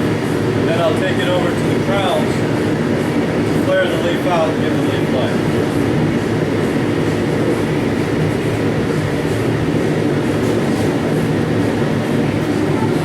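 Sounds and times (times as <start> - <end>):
shop machinery rumbling: 0.0 - 13.0.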